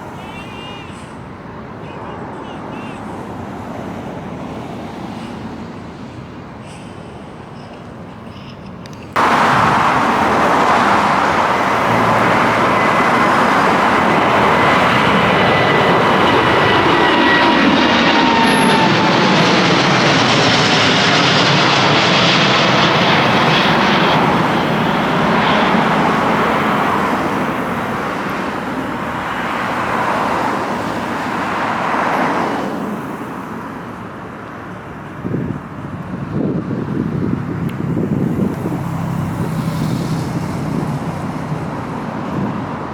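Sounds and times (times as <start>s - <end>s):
jet airliner roar overhead: 0.0s - 42.9s.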